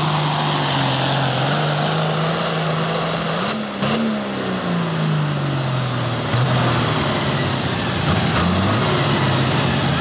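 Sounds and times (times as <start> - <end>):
tractor diesel engine revving: 0.0 - 10.0.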